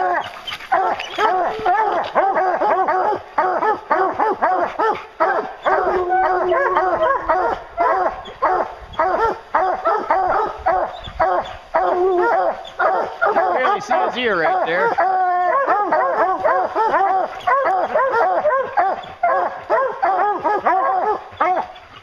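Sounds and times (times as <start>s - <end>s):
hound long bawl: 0.0s - 22.0s
hounds barking: 0.0s - 22.0s.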